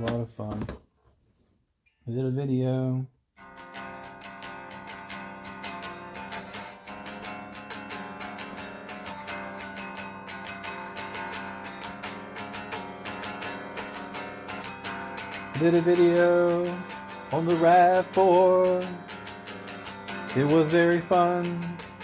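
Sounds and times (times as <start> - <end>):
guitar strumming chords: 3.4 - 22.0.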